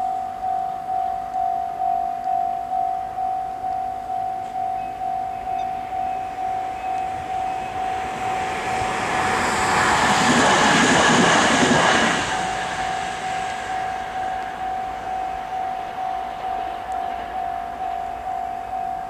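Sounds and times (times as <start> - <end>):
level-crossing bell ringing: 0.0 - 9.3, 12.6 - 19.0
train passing: 0.0 - 19.0.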